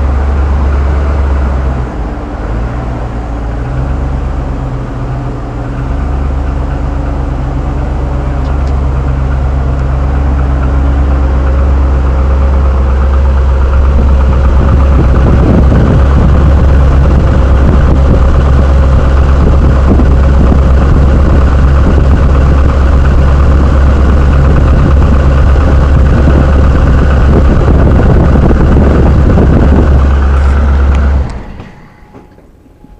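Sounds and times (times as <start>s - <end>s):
car engine running with rattle: 0.0s - 32.9s.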